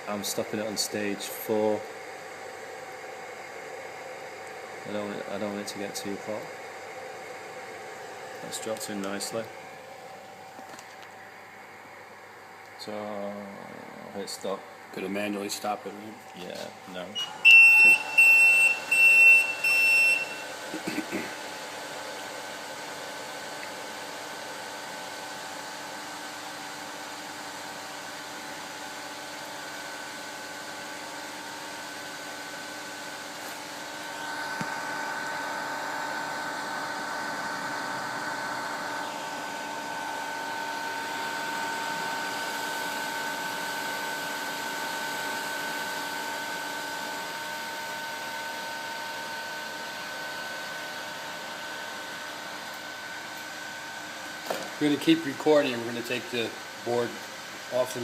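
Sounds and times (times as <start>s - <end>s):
fans and blower whirring: 0.0s - 58.0s
high fan whine: 0.0s - 58.0s.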